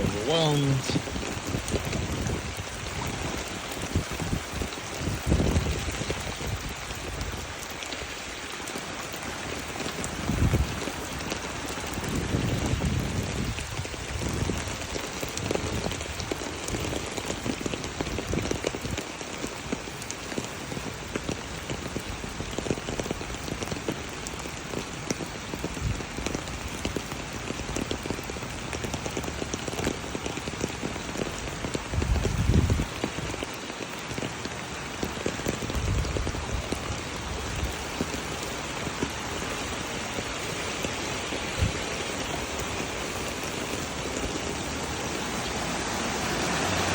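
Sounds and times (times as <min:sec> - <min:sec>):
falling rain: 0:00.0 - 0:46.9
floodwater rushing into drain: 0:00.0 - 0:46.9.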